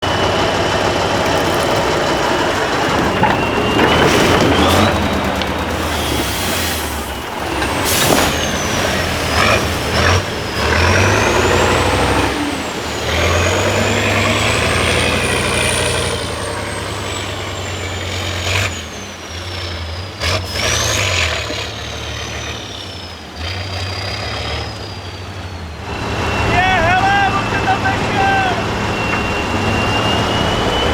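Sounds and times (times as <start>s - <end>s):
truck diesel engine working hard: 0.0s - 30.9s.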